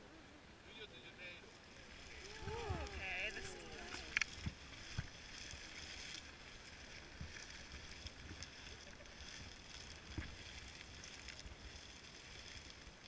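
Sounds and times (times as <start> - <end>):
boiling pool bubbling: 1.6 - 13.0.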